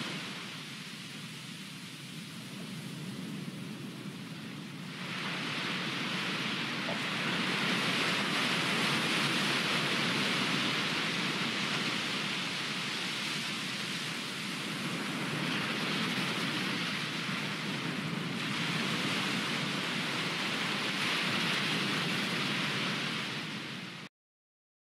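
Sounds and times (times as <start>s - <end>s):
waves breaking on shore: 0.0s - 24.1s.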